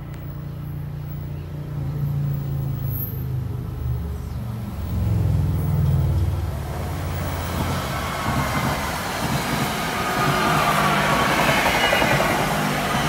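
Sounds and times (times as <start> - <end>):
train approaching rumble: 0.0 - 13.0.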